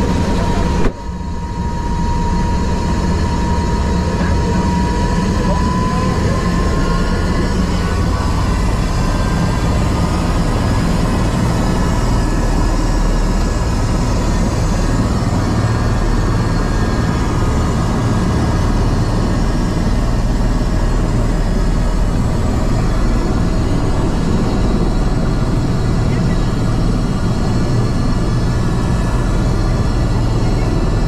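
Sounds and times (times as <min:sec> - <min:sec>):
helicopter rotor rumble: 0:00.0 - 0:31.0
thin turbine whine: 0:00.0 - 0:31.0.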